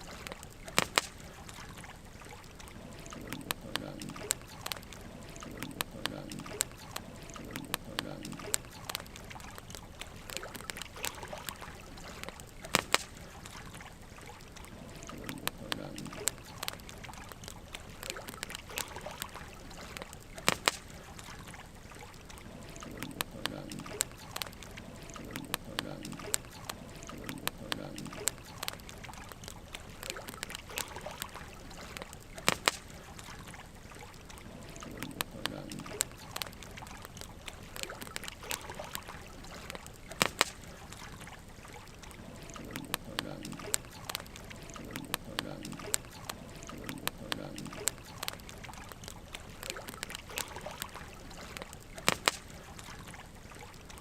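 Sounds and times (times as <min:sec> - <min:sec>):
burning logs crackling: 0:00.0 - 0:54.0
soft steady hiss: 0:00.0 - 0:54.0.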